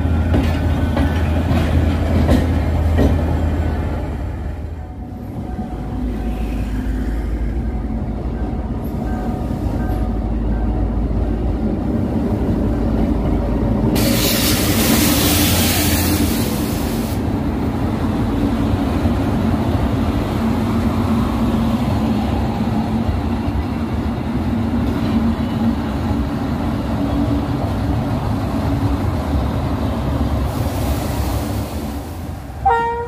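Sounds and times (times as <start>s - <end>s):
train coaches rumbling past: 0.0s - 33.0s.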